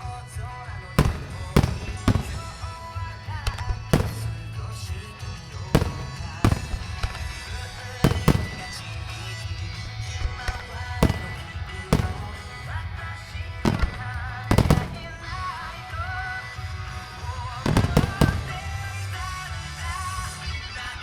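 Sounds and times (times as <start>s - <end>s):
fireworks bangs: 0.0s - 20.9s
music playing: 0.0s - 21.0s.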